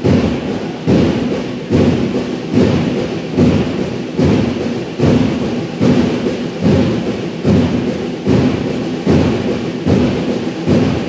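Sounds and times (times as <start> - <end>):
drum beaten in steady rhythm: 0.0 - 11.0.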